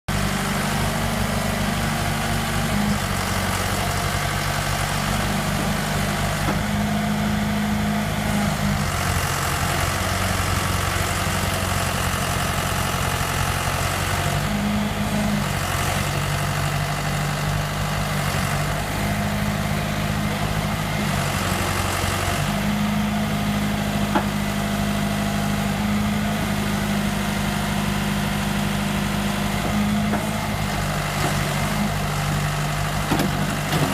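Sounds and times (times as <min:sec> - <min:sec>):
backhoe loader engine running: 0:00.1 - 0:33.9.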